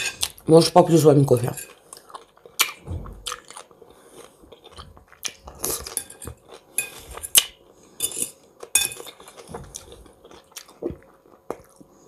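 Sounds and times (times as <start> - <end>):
crunching and chewing: 1.4 - 12.0.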